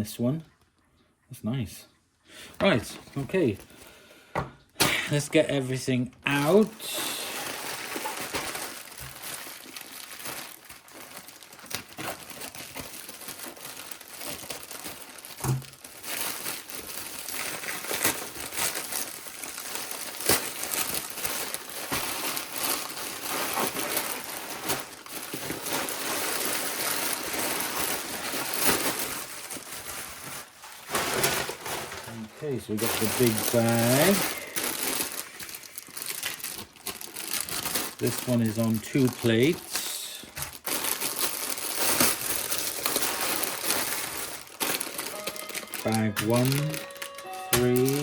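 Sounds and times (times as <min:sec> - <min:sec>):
plastic bags crinkling: 0:04.8 - 0:48.0.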